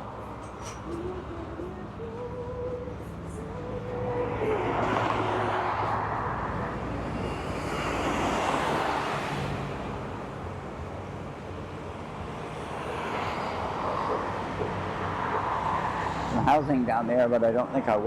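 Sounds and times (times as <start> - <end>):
steady traffic rumble: 0.0 - 18.0
vehicles passing on highway: 0.0 - 18.0.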